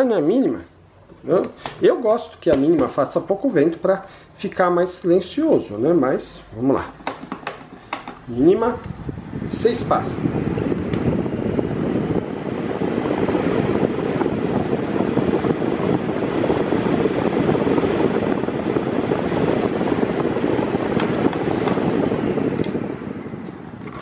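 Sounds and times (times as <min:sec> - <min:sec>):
electric fan blowing air: 0:00.0 - 0:24.0.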